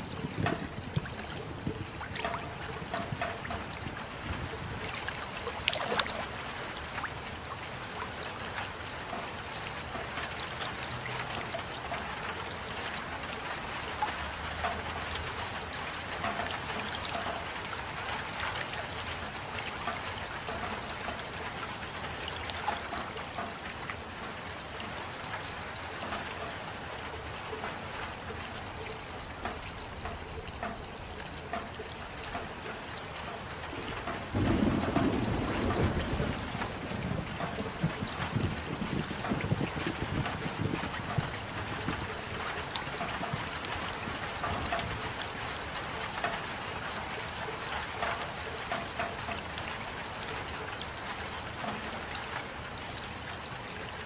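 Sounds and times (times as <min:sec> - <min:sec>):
steady rain falling: 0:00.0 - 0:54.0
water trickling: 0:00.0 - 0:54.0.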